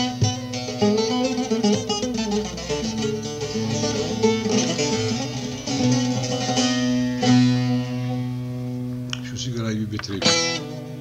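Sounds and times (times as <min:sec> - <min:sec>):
long-necked lute played with plectrum: 0:00.0 - 0:09.2, 0:10.1 - 0:11.0.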